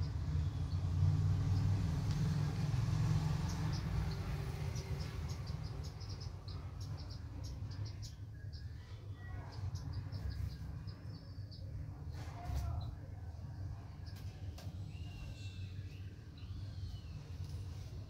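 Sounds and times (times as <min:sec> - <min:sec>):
low steady rumble: 0:00.0 - 0:18.0
small birds chirping: 0:00.0 - 0:18.0.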